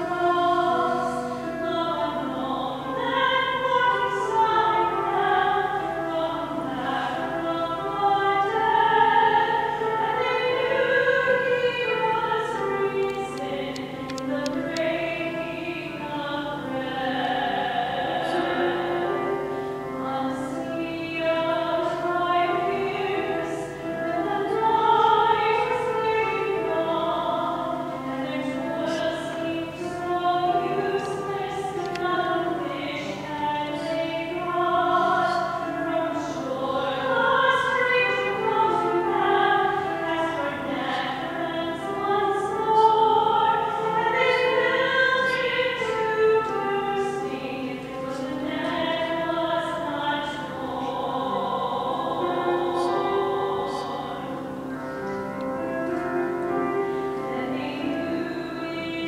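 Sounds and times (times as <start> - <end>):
choir singing slow sacred piece: 0.0 - 59.0.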